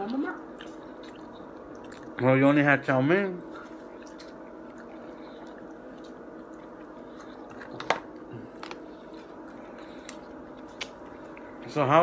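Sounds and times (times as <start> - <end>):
person chewing food: 0.0 - 2.3, 3.4 - 11.6
low room hum: 0.0 - 12.0.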